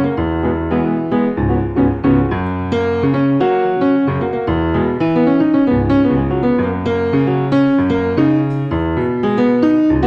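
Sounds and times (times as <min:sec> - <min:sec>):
jazz piano: 0:00.0 - 0:10.0.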